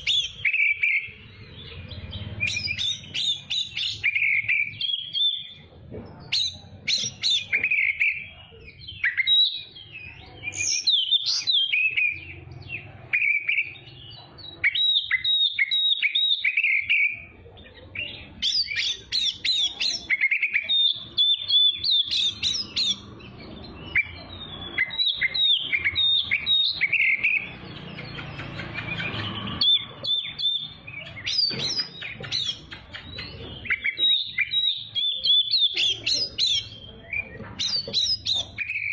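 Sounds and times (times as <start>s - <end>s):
songbird singing whistled phrases: 0.0s - 5.6s, 6.3s - 12.4s, 13.1s - 38.9s.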